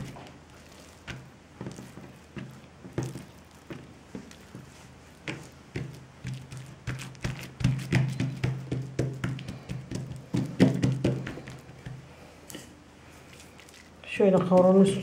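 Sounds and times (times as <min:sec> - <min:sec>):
fingertips patting dough on wood: 0:00.0 - 0:12.7, 0:14.2 - 0:15.0.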